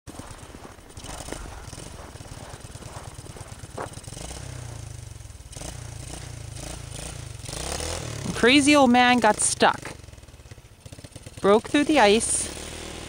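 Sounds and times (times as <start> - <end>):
distant atv engine running: 0.1 - 13.0.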